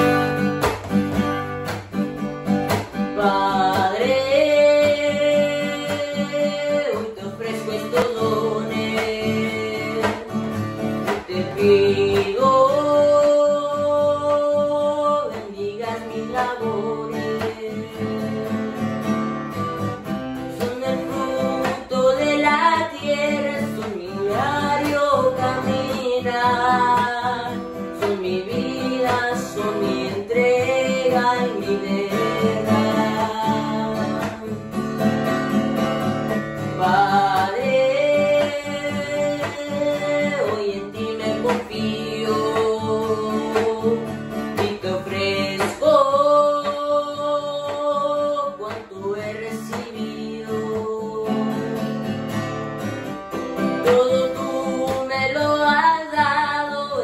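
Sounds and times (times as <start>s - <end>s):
strummed acoustic guitar: 0.0s - 57.0s
boy singing: 3.1s - 18.8s, 20.4s - 34.8s, 36.7s - 52.1s, 53.6s - 57.0s.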